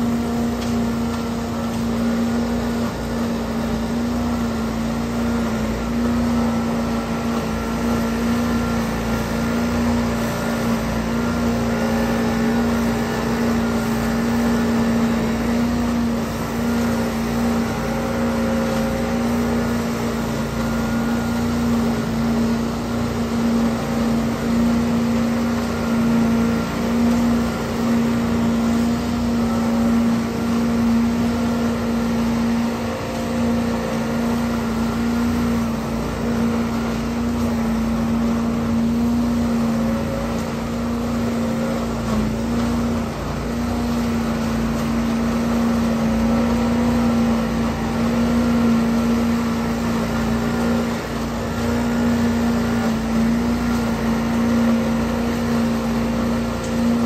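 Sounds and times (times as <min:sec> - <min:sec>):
leaf vacuum humming: 0:00.0 - 0:57.0.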